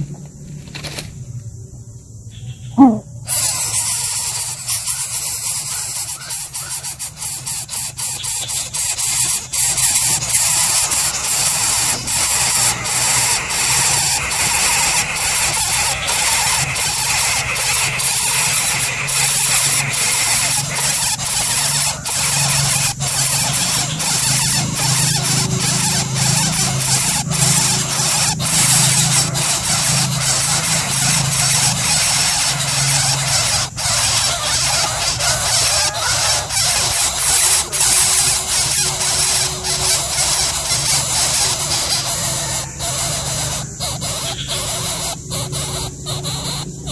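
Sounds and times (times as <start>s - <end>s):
chicks squealing and hissing: 2.3s - 46.9s.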